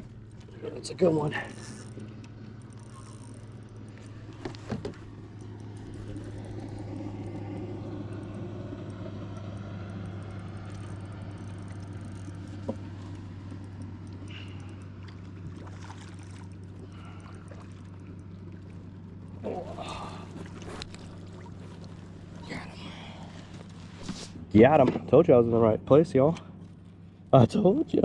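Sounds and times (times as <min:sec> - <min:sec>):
water noise: 0:00.0 - 0:24.4
electric trolling motor humming: 0:00.0 - 0:28.0.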